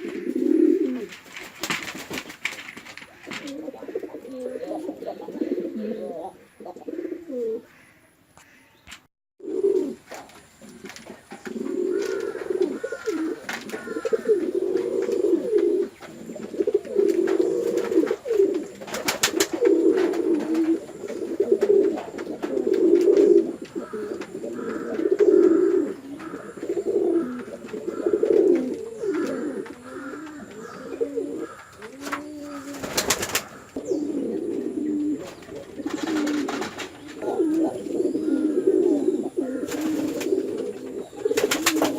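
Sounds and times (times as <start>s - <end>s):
pigeons cooing: 0.0s - 8.0s, 9.4s - 41.9s.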